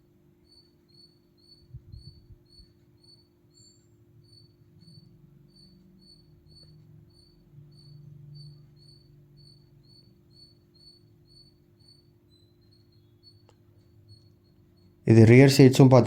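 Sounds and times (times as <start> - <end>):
high-pitched chirping: 0.4 - 15.9.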